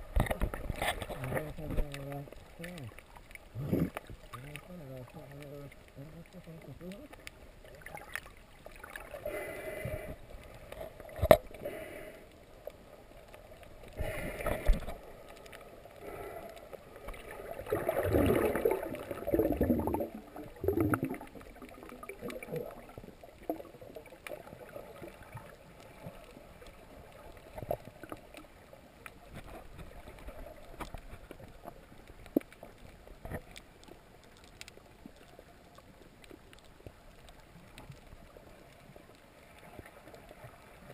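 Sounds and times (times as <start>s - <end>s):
underwater water sloshing: 0.0s - 40.9s.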